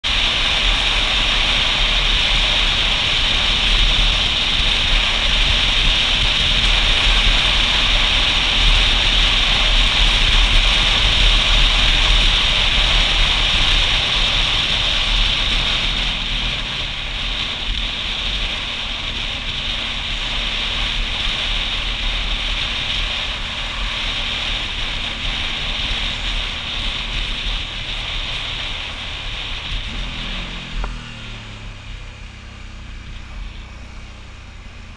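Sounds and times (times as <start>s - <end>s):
wind noise: 0.0s - 34.0s
faint motorcycle engine: 0.0s - 34.9s
tyre hiss on wet road: 0.0s - 34.9s.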